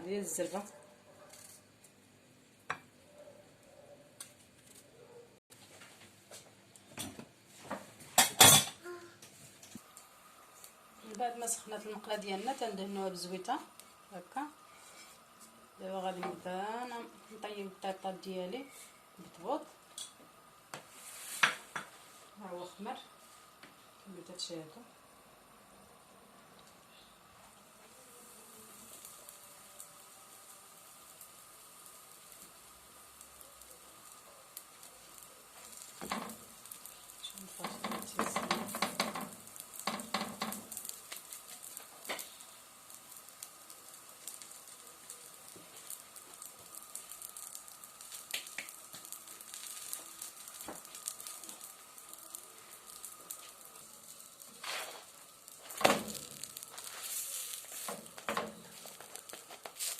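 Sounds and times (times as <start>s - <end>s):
dough sizzling in a pan: 0.0s - 0.7s, 1.3s - 59.9s.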